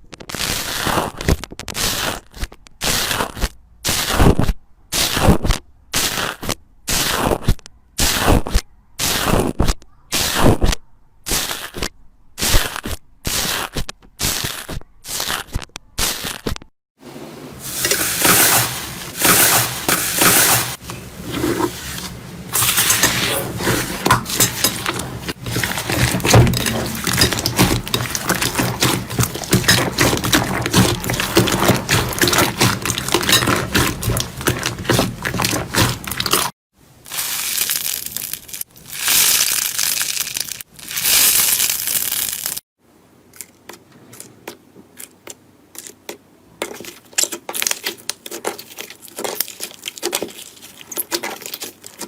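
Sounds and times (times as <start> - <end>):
slime squishing and crackling: 0.0 - 10.7, 11.3 - 16.6, 17.7 - 36.5, 37.1 - 42.6, 46.6 - 52.0.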